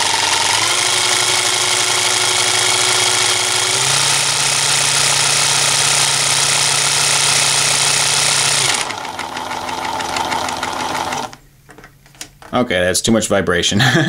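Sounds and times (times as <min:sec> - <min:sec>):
small air compressor running: 0:00.0 - 0:11.4.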